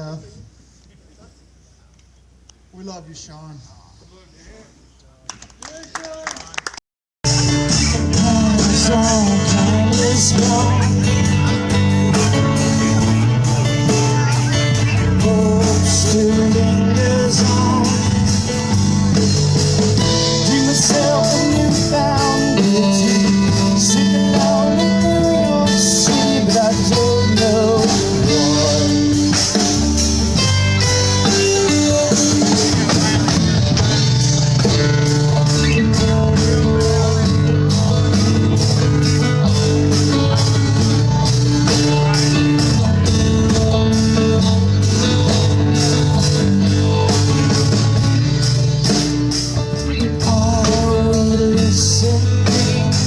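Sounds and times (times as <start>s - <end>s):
blues rock band playing: 7.2s - 53.0s.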